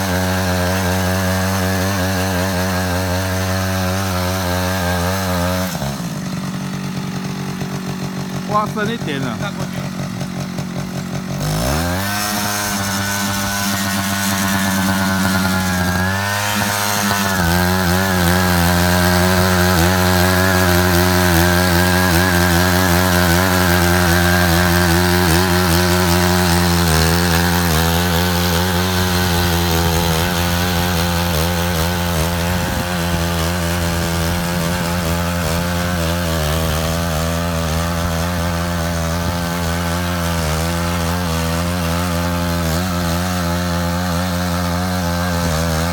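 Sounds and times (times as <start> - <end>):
walking tractor engine under load: 0.2 - 45.9.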